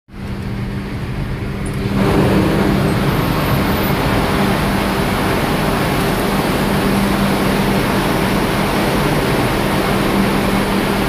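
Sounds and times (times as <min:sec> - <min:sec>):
engine room machinery drone: 0:00.1 - 0:11.0.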